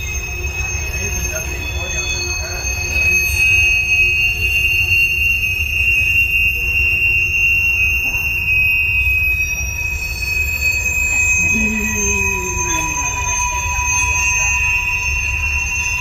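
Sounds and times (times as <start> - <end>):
high-pitched wheel squeal: 0.0 - 16.0.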